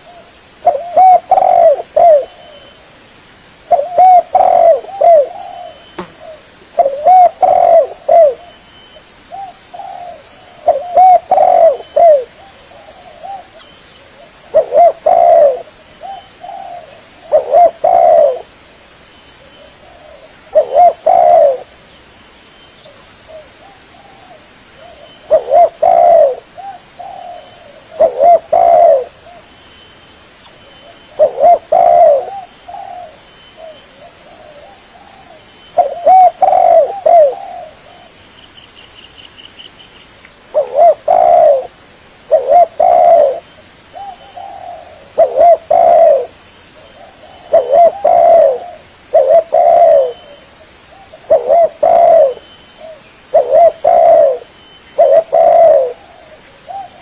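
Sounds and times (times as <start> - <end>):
dove cooing: 0.0 - 2.8, 3.7 - 8.6, 9.3 - 18.5, 19.6 - 21.8, 22.9 - 29.5, 30.7 - 38.2, 40.5 - 57.0.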